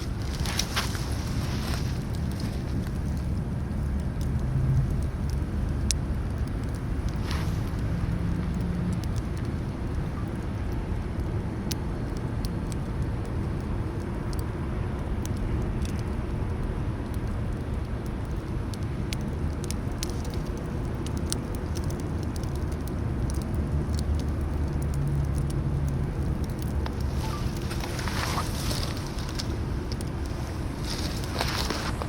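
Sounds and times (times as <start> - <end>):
campfire crackles and pops: 0.0 - 32.0
fire low rumble: 0.0 - 32.0.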